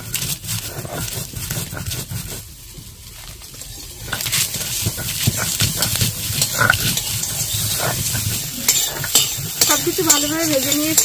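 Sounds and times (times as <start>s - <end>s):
stone roller grinding on stone: 0.0s - 11.0s.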